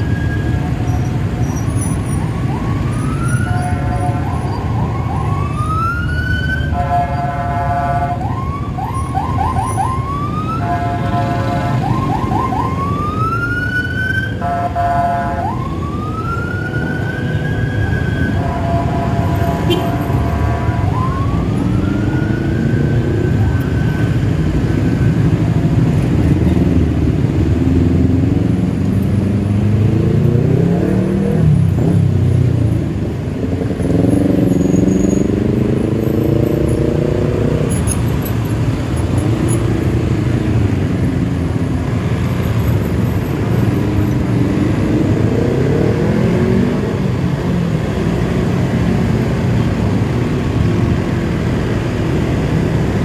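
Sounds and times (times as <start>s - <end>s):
traffic rumble: 0.0s - 53.0s.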